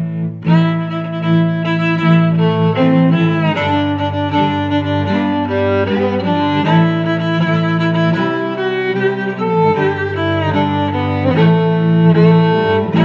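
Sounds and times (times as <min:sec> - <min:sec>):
bowed strings music: 0:00.0 - 0:13.0.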